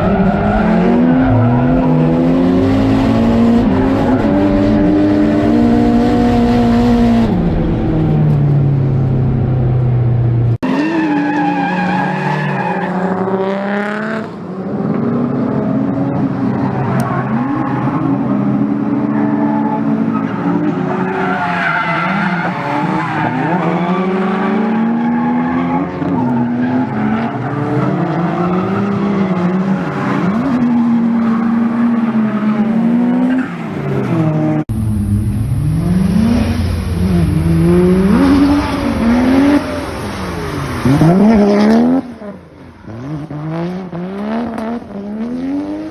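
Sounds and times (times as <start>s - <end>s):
car engine revving: 0.0s - 12.2s, 13.0s - 45.9s
tyres skidding and squealing: 0.0s - 13.5s, 14.7s - 45.9s.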